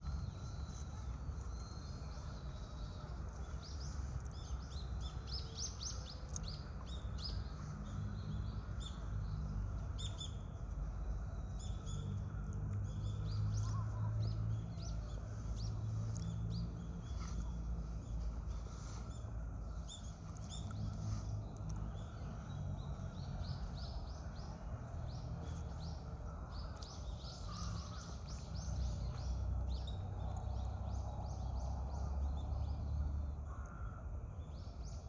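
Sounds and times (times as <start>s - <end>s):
birds chirping: 0.0s - 35.0s
distant city rumble: 0.0s - 35.0s.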